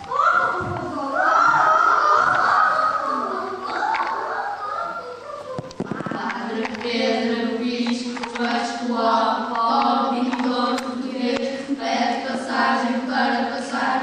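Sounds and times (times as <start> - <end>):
steady held drone: 1.8 - 14.0.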